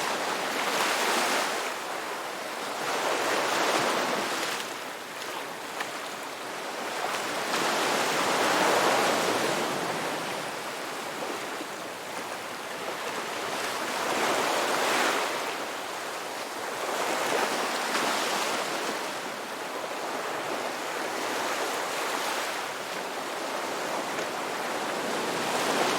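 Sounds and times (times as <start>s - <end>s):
ocean waves breaking on beach: 0.0s - 25.9s.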